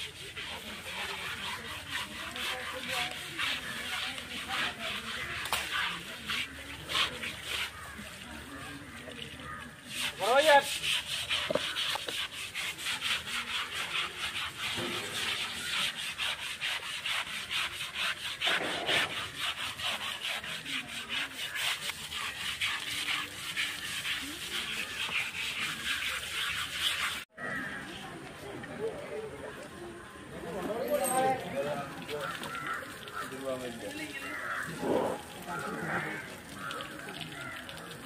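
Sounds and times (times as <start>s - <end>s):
brush scrubbing wet hide: 0.0s - 27.3s, 31.0s - 38.0s.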